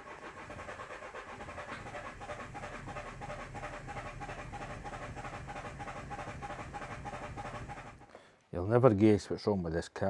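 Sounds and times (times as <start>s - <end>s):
diesel engine cranking: 0.0s - 8.2s.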